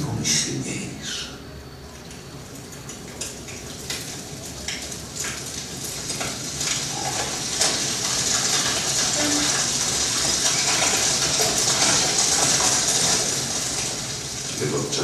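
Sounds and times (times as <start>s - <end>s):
fire crackling over loudspeakers: 1.6s - 15.0s.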